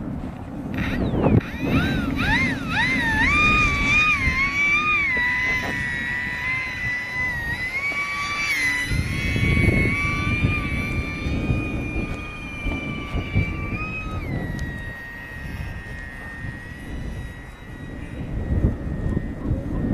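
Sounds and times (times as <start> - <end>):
wind buffeting microphone: 0.0 - 19.9
rc airplane motor whining: 0.4 - 19.9.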